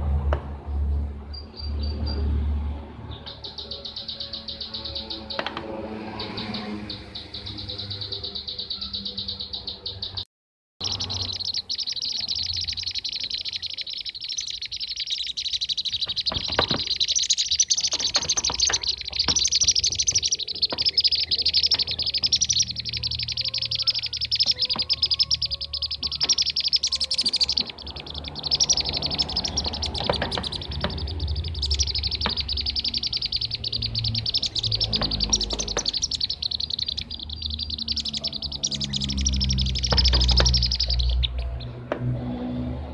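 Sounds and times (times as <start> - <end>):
bee-eaters chirping: 3.1 - 10.2, 10.8 - 41.8.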